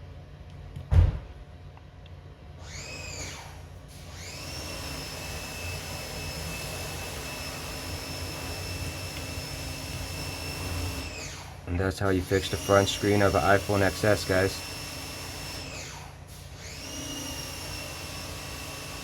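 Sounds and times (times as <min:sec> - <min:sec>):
compressed-air equipment whining: 0:02.6 - 0:19.0.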